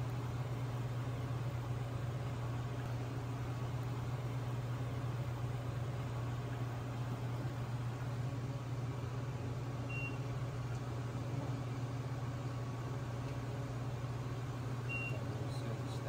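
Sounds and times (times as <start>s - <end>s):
kitchen equipment humming: 0.0s - 16.0s.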